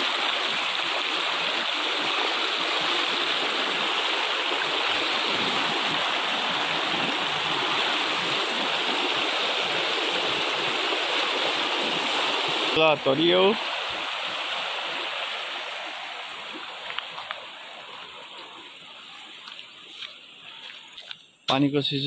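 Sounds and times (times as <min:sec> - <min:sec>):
stream rushing over stones: 0:00.0 - 0:21.2.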